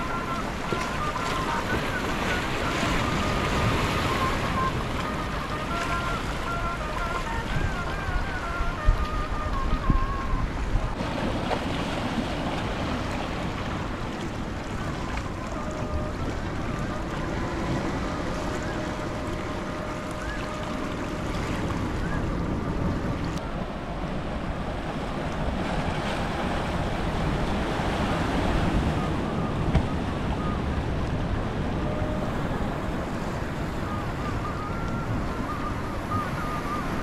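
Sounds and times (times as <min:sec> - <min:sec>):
sea surf washing: 0:00.0 - 0:37.0
wind buffeting microphone: 0:00.0 - 0:37.0.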